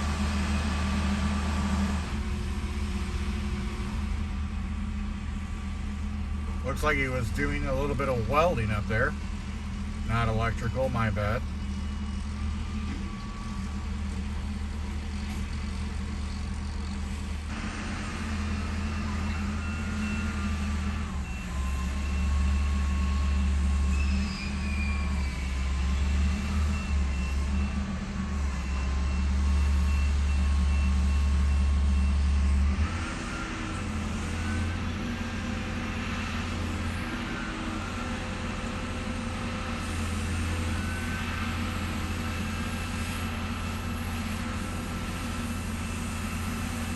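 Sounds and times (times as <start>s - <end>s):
vehicle engine rumbling: 0.0s - 46.9s.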